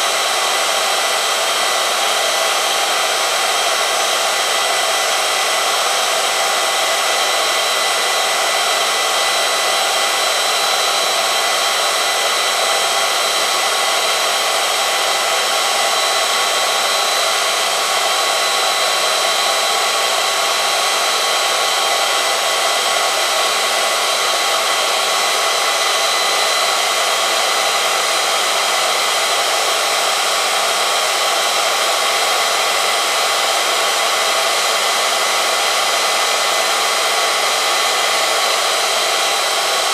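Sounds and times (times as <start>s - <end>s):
test machine motor whine: 0.0s - 39.9s.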